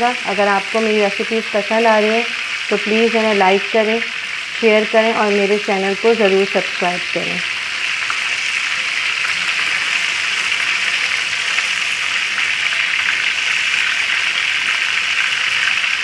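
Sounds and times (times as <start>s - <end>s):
kebabs sizzling in hot oil: 0.0s - 16.0s.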